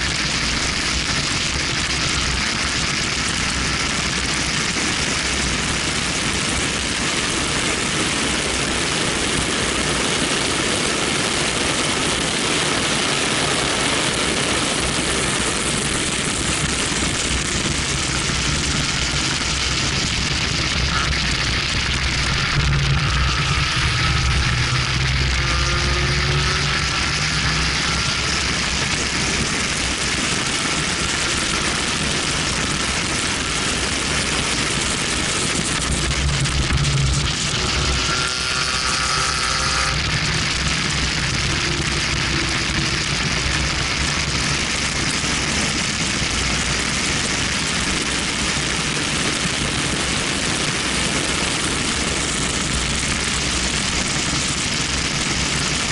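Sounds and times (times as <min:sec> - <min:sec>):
car engine accelerating: 0:00.0 - 0:47.3
heavy wind noise: 0:00.0 - 0:55.9
road noise: 0:00.0 - 0:55.9.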